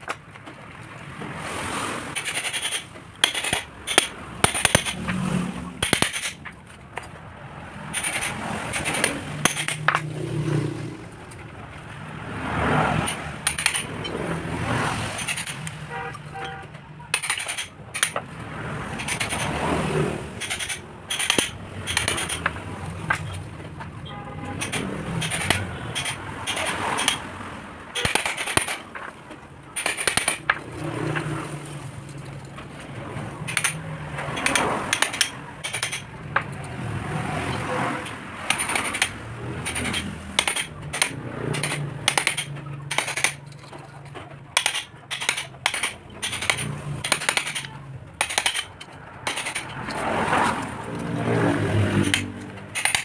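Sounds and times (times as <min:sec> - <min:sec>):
metal tools clinking: 0:02.1 - 0:07.2, 0:07.8 - 0:10.4, 0:12.9 - 0:53.0.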